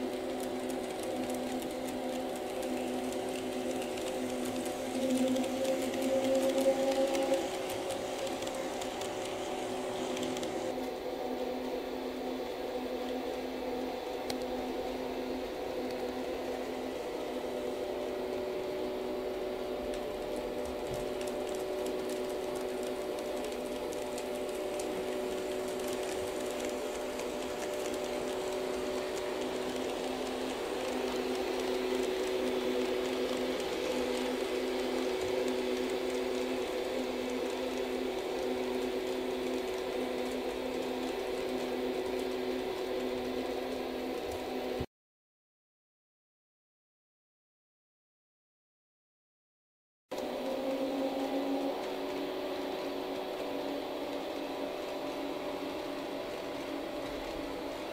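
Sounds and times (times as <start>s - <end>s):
model train electric hum: 0.0s - 44.9s, 50.2s - 57.9s.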